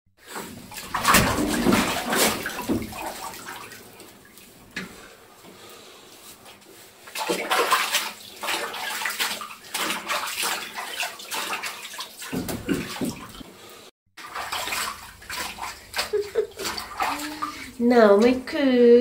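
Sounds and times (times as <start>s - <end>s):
bathwater splashing in a tub: 0.2s - 18.6s.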